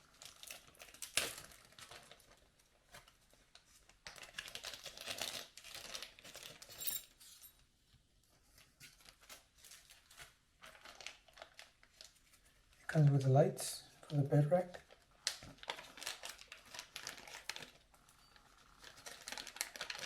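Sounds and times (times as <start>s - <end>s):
plastic packaging crinkling: 0.0s - 6.8s, 8.6s - 13.1s, 14.0s - 20.0s.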